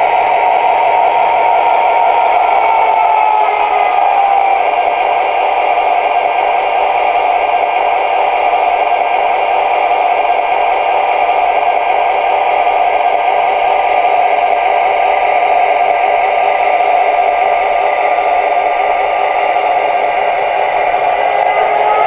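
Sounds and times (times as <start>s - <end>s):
train wheels clattering on track: 0.0s - 22.0s.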